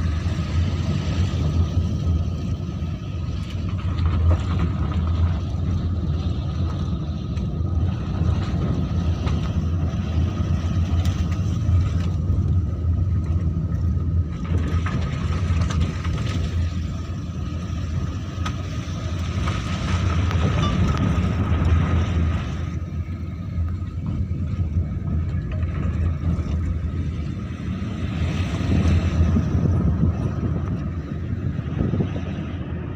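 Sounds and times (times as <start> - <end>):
car engine drone: 0.0 - 32.9
tyre and road rumble: 0.0 - 32.9.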